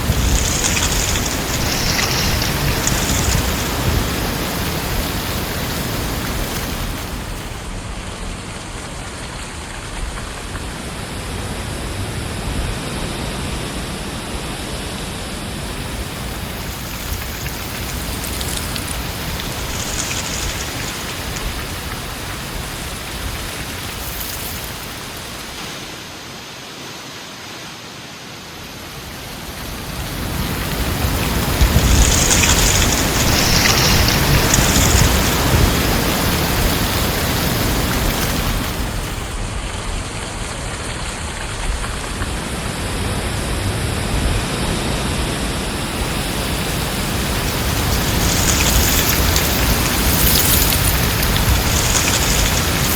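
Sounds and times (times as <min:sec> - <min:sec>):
heavy wind blowing: 0:00.0 - 0:08.8, 0:10.4 - 0:26.2, 0:28.6 - 0:40.1, 0:41.8 - 0:52.9.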